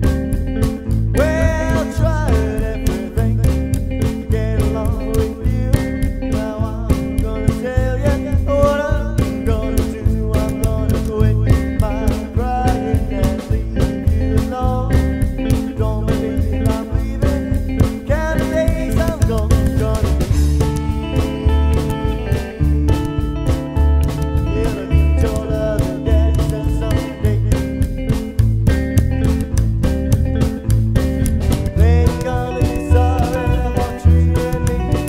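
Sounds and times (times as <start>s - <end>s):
rockabilly band playing: 0.0s - 35.0s.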